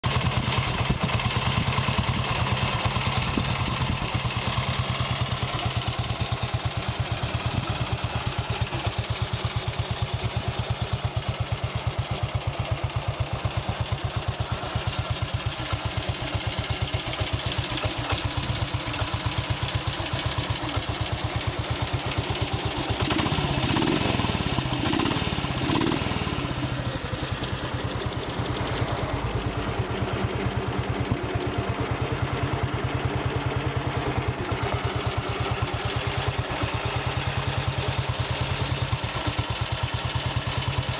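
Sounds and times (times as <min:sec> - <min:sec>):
motorcycle engine revving: 0:00.0 - 0:11.7, 0:12.3 - 0:40.9
motorcycle engine idling: 0:00.0 - 0:40.9.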